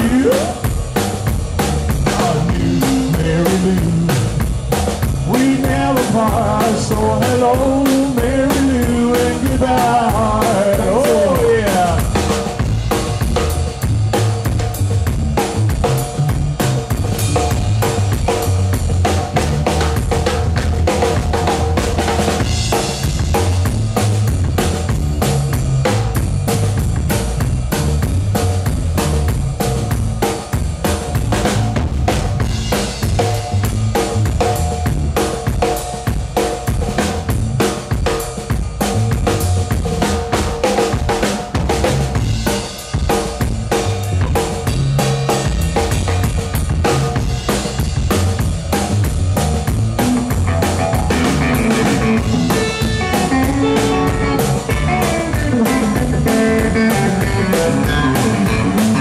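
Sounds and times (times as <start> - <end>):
drum kit playing: 0.0 - 59.0
upright bass: 0.0 - 59.0.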